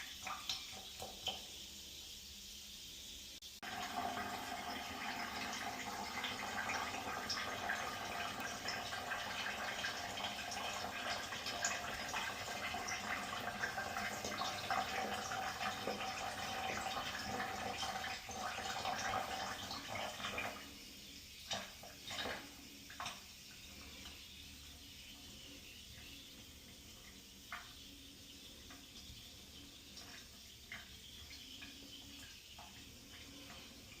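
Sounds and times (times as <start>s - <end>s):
water running from a tap: 0.0s - 34.0s.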